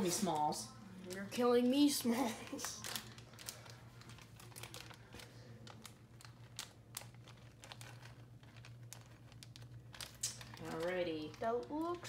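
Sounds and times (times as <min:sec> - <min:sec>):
plastic packet crinkling: 0:00.0 - 0:12.0
steady low hum: 0:00.0 - 0:12.0.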